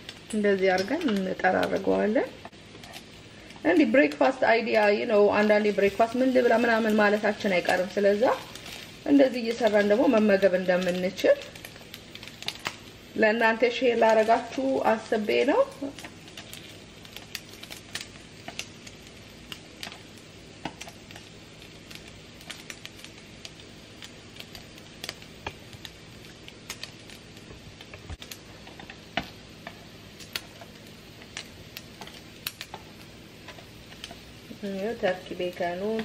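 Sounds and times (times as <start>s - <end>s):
bacon sizzling with pops: 0.0s - 36.0s.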